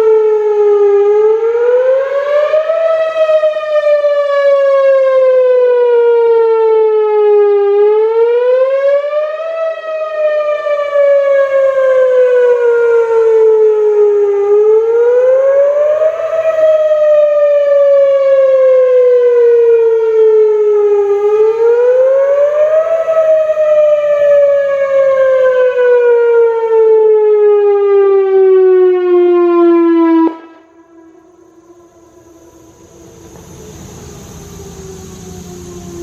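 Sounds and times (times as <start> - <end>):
warning siren wailing: 0.0 - 36.0.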